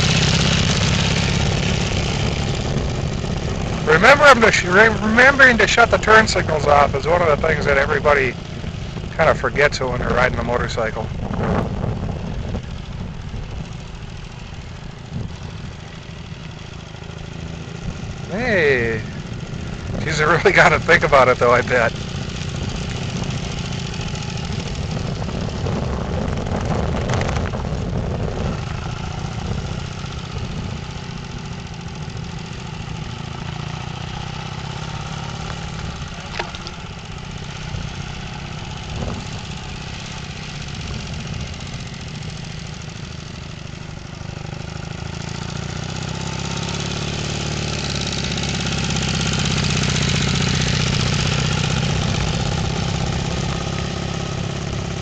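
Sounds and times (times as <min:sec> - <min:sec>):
motorcycle engine at low speed: 0:00.0 - 0:55.0.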